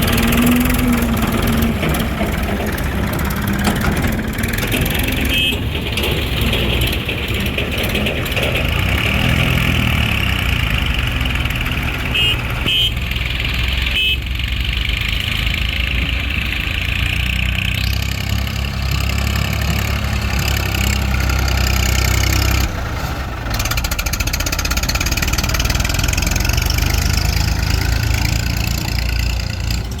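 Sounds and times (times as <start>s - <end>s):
diesel engines running: 0.0s - 30.0s.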